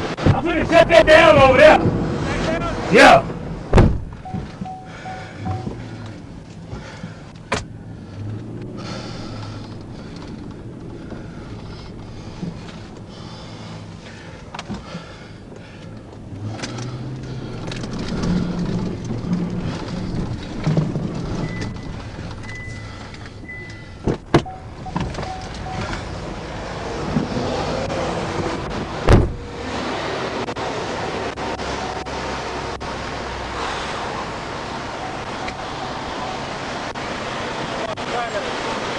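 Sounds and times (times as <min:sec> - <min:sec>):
highway traffic rumble: 0:00.0 - 0:38.9.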